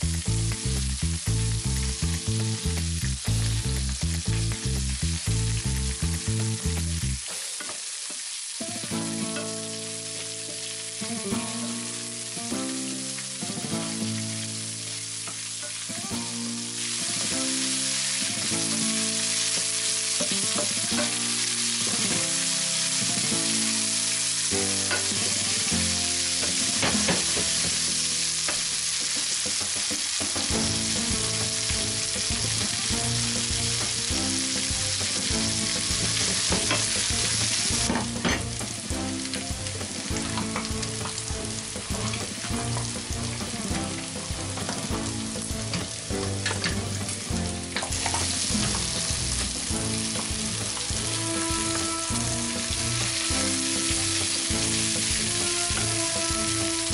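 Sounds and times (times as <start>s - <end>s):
food sizzling in a frying pan: 0.0s - 56.9s.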